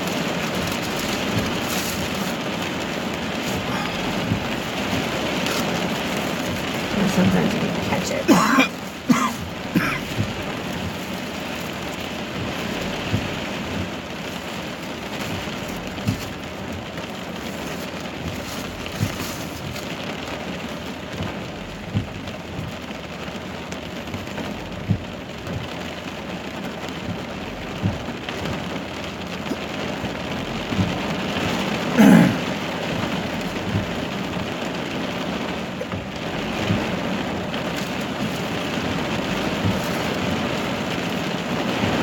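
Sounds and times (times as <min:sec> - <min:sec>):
heavy rain falling: 0:00.0 - 0:42.0
louder raindrop impacts: 0:00.0 - 0:42.0.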